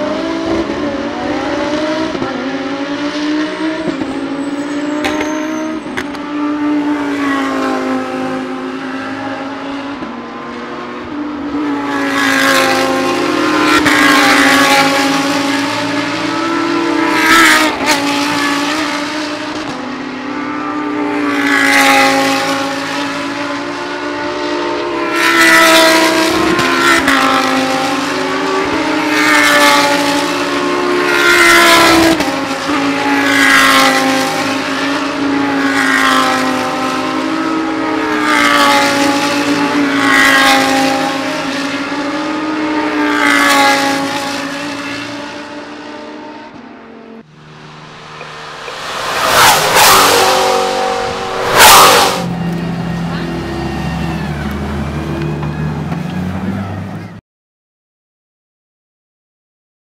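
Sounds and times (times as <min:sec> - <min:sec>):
race car engines passing: 0:00.0 - 0:57.2.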